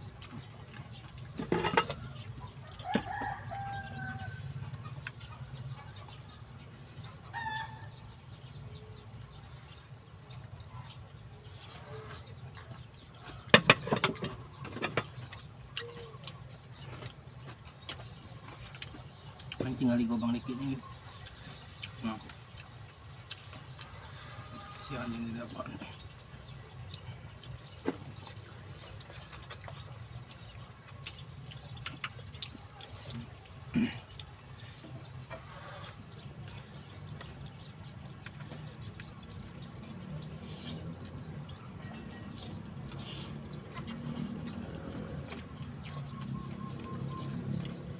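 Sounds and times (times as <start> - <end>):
chewing: 0.0 - 47.9.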